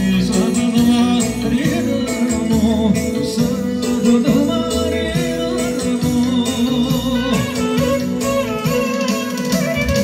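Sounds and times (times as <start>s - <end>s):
electronic keyboard melody: 0.0s - 10.0s
steady percussion beat: 0.0s - 10.0s.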